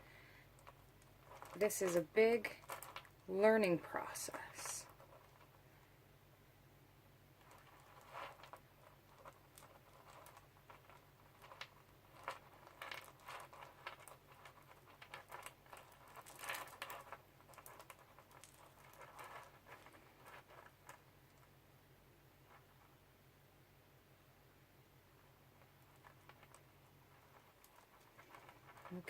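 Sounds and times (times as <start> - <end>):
beads clicking and rustling: 0.4 - 5.7, 7.4 - 21.6, 25.2 - 29.0.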